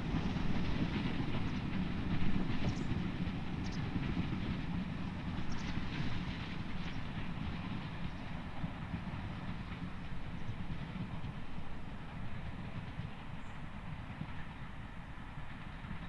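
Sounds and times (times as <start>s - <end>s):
distant train rumbling: 0.0s - 16.0s
train wheels clattering: 0.0s - 16.0s.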